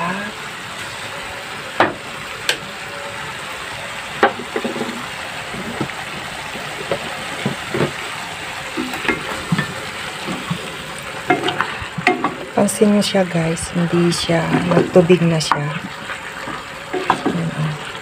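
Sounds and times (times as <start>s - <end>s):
squid sizzling in a pot: 0.0s - 18.0s.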